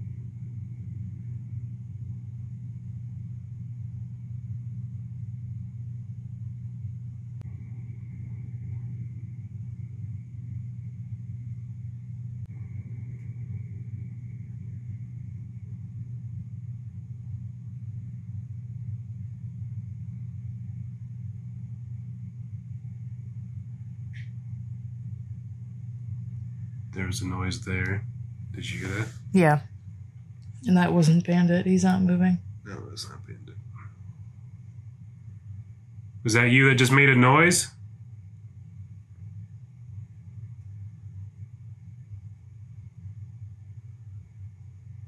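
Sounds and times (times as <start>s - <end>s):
low hum of room tone: 0.0s - 45.0s.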